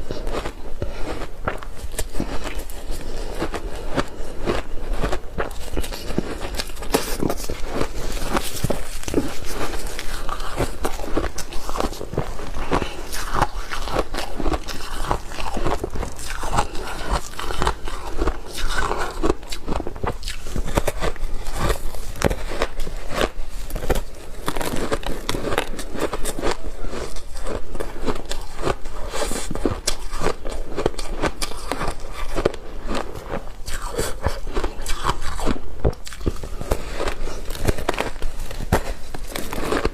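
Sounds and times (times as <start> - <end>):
crunching ice being chewed: 0.0 - 39.9.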